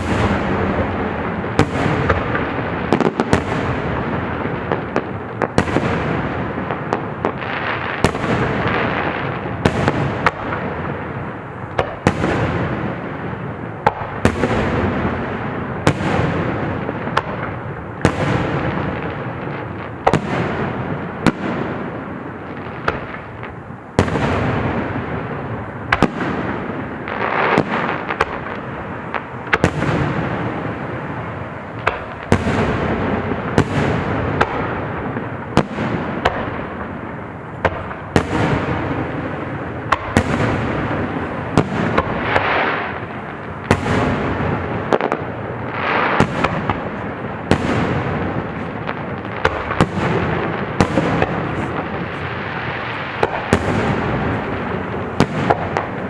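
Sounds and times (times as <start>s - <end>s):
fireworks bangs with rumbling echo: 0.0s - 56.0s.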